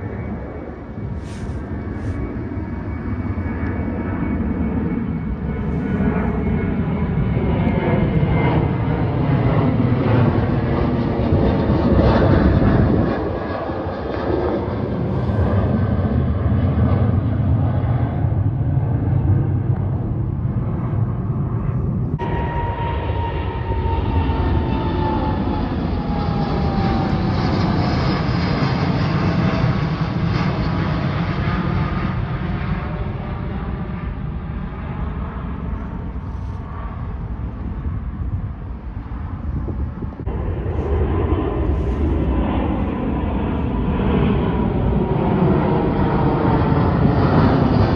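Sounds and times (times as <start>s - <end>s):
jet engines rumbling: 0.0s - 47.9s.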